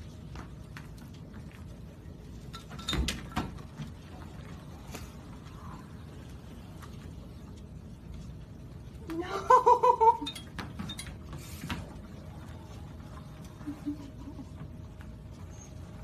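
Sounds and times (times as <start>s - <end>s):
treadmill humming: 0.0s - 16.0s.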